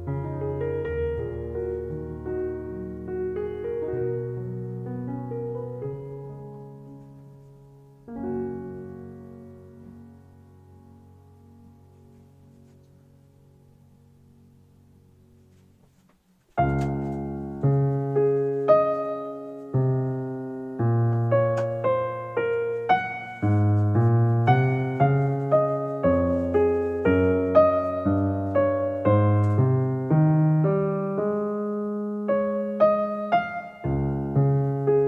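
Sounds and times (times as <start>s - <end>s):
gentle piano melody: 0.0s - 35.0s.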